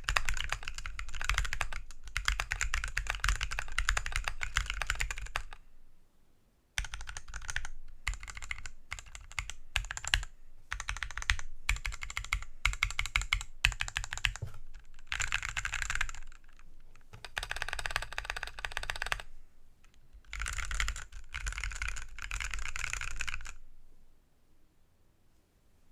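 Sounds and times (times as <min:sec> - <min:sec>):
typing on mechanical keyboard: 0:00.0 - 0:05.6, 0:06.8 - 0:19.3, 0:20.2 - 0:23.6.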